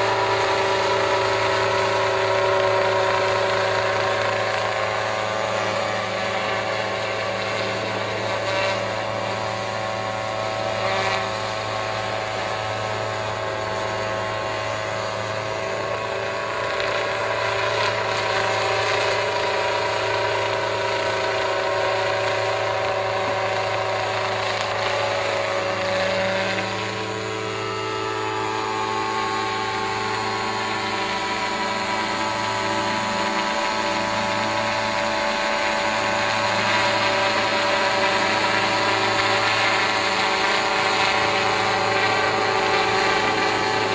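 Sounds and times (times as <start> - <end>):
small helicopter engine and rotor: 0.0 - 43.9.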